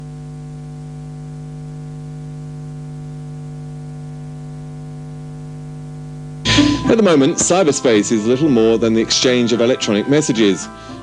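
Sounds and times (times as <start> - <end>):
buzzy electrical hum: 0.0 - 11.0.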